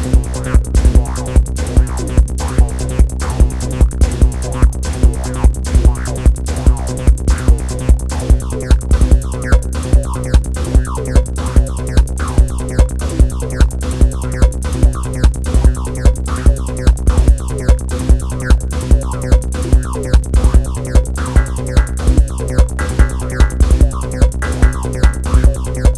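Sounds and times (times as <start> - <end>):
machine kick beat: 0.0 - 25.9
synth bass line: 0.0 - 25.9.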